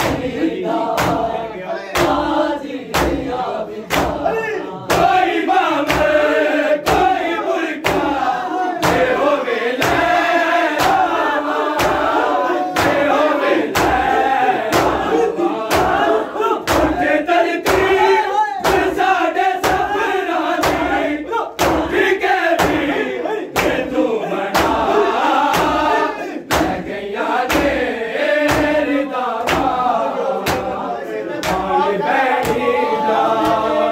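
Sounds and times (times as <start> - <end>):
crowd of men chanting: 0.0 - 33.9
hands slapping chests: 0.9 - 1.3, 2.0 - 4.3, 4.9 - 9.2, 9.8 - 16.1, 16.7 - 22.9, 23.5 - 30.8, 31.4 - 31.8, 32.4 - 32.7.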